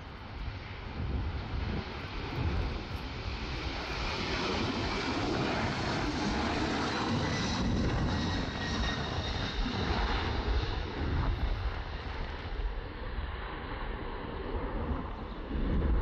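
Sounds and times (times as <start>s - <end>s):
jet airliner roar at takeoff: 0.0s - 16.0s.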